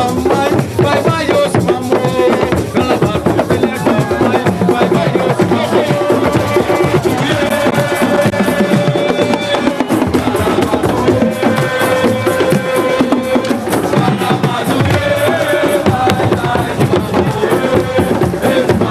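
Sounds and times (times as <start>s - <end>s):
fast dense drumming: 0.0s - 18.9s.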